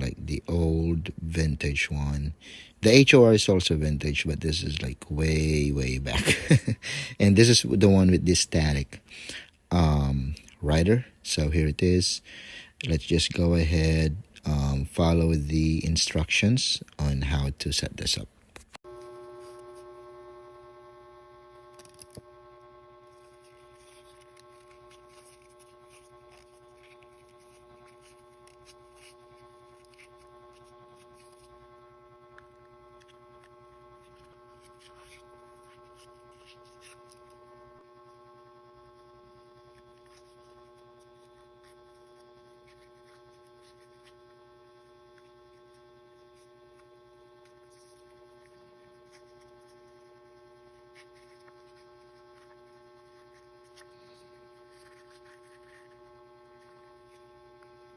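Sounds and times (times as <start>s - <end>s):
faint electrical hum: 0.0s - 57.9s.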